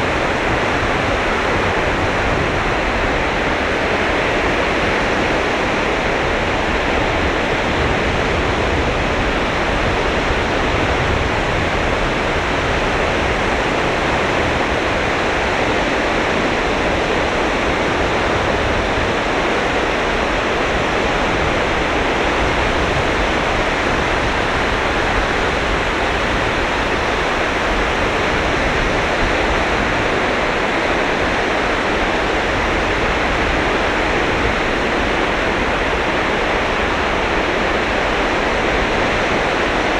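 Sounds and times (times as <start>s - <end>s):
surf roaring on beach: 0.0s - 39.9s.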